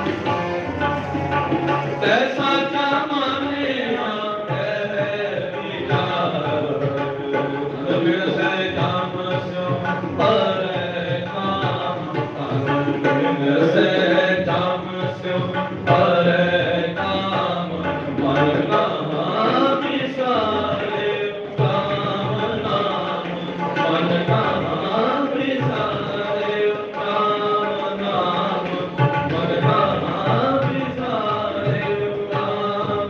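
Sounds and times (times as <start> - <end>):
harmoniums playing held chords: 0.0 - 33.0
tabla beat: 0.0 - 33.0
man singing: 1.3 - 33.0.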